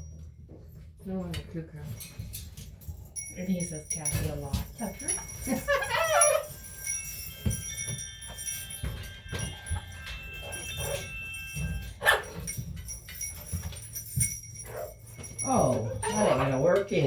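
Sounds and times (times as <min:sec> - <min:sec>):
bell ringing: 0:03.2 - 0:17.0.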